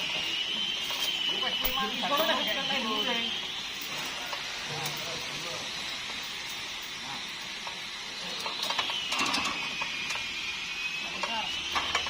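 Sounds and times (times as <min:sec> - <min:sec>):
thin high whine: 0:00.0 - 0:12.0.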